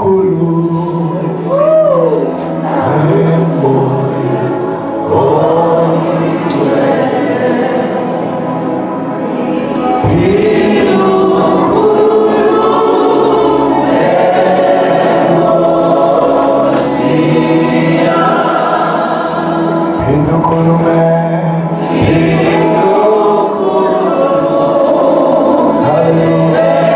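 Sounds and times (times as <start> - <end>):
choir singing a gospel song: 0.0 - 26.9.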